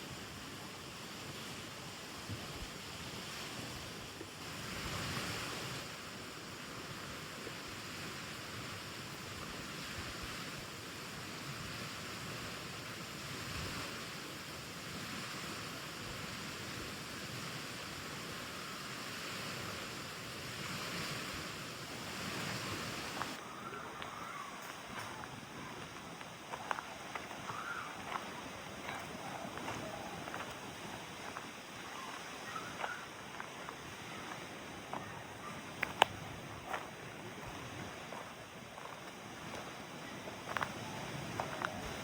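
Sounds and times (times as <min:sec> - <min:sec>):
rushing outdoor noise: 0:00.0 - 0:42.0.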